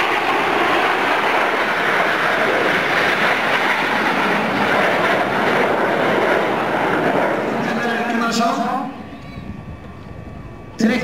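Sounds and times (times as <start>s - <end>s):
jet engines flying past: 0.0s - 11.0s.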